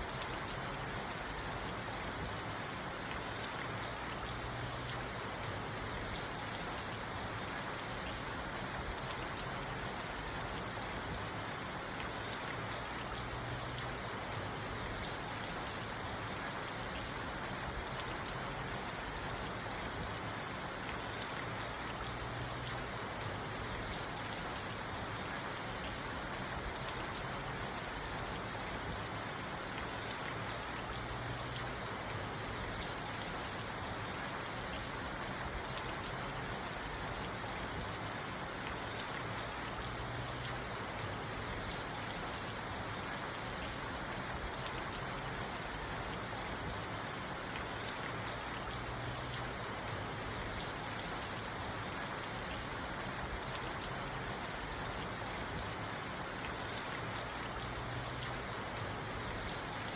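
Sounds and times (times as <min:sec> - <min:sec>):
rain on car roof and windows: 0:00.0 - 0:59.9.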